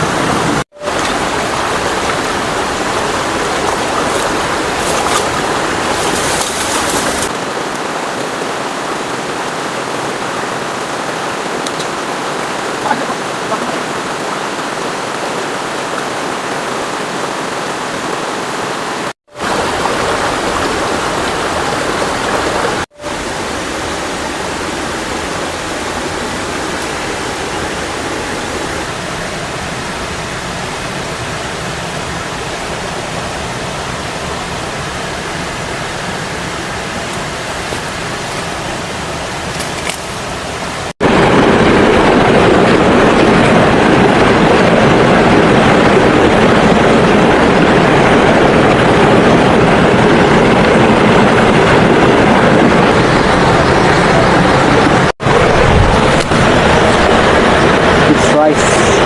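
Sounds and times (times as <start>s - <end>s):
fast-flowing water rushing: 0.0s - 59.0s.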